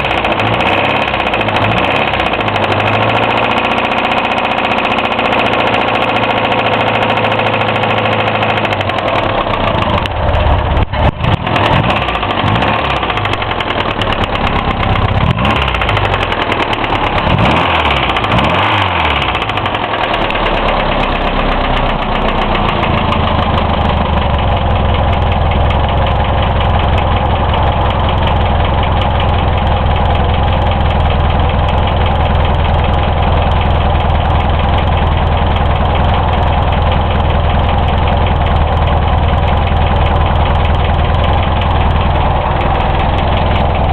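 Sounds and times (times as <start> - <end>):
car engine knocking: 0.0 - 43.9.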